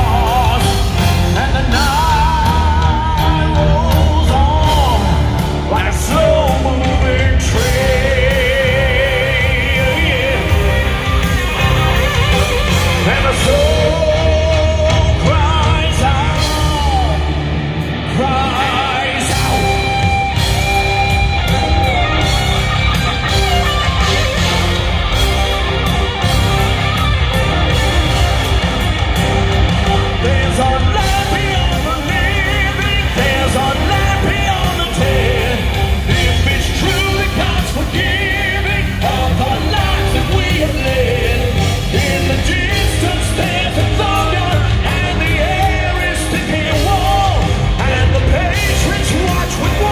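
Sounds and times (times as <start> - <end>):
electric guitar with vibrato: 0.0 - 49.9
live heavy rock band: 0.0 - 49.9.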